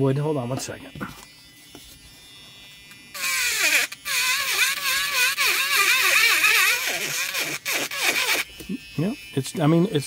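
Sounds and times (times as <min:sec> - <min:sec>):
electric grinder whining into wood: 0:01.0 - 0:10.0.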